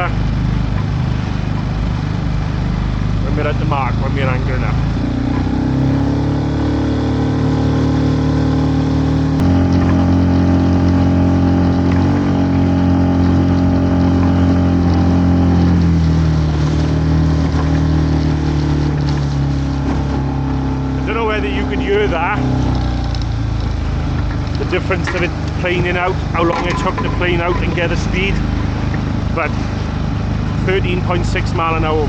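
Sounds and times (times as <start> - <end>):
outboard motor running hard: 0.0 - 32.0.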